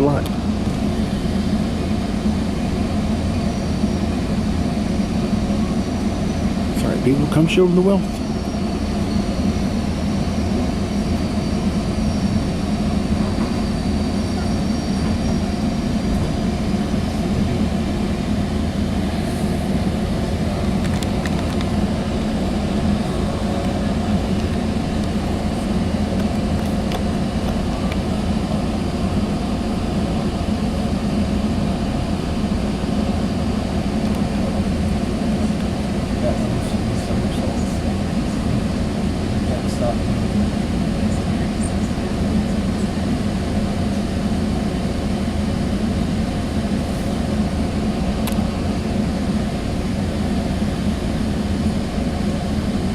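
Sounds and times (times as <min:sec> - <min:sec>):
faint high whine: 0:00.0 - 0:52.9
train coach rumble: 0:00.0 - 0:52.9.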